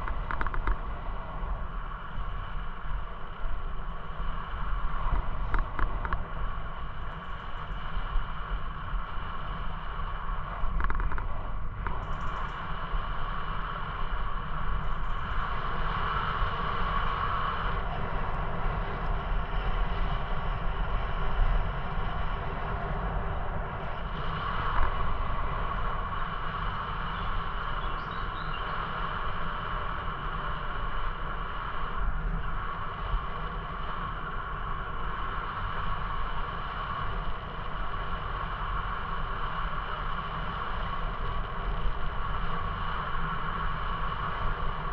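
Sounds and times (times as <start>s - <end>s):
wind noise on microphone: 0.0s - 44.9s.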